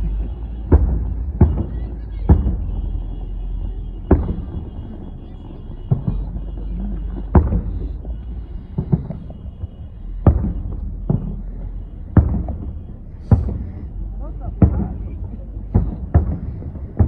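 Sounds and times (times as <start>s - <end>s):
fireworks bangs: 0.0s - 17.0s
low rumble: 0.0s - 17.0s.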